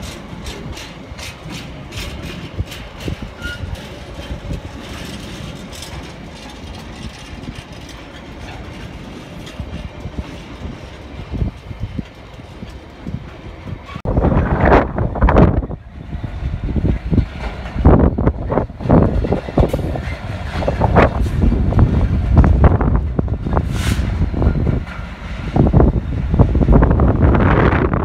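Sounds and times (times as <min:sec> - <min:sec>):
freight train wheels clicking: 0:00.0 - 0:14.1, 0:15.8 - 0:28.0
wind noise on microphone: 0:00.0 - 0:28.0.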